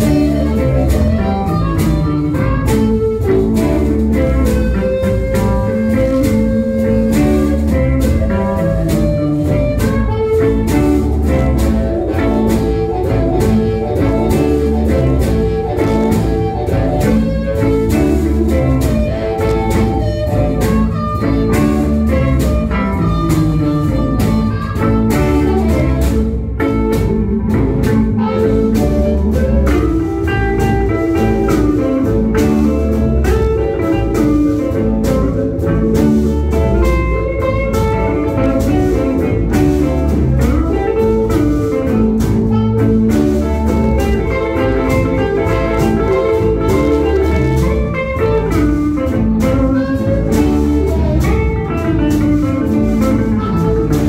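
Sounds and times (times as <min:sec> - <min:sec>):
blues band playing: 0:00.0 - 0:54.0
blues harmonica: 0:00.0 - 0:54.0.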